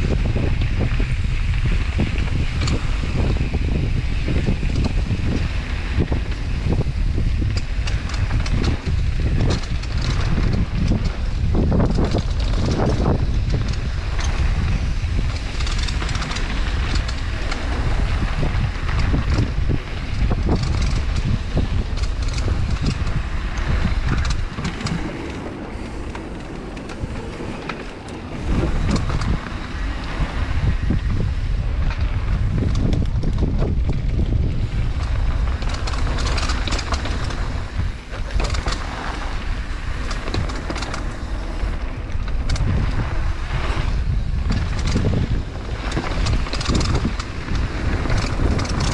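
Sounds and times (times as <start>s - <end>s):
bike clicks and rattles: 0.0s - 48.9s
tyres rolling on dirt trail: 0.0s - 48.9s
wind buffeting microphone: 0.0s - 48.9s.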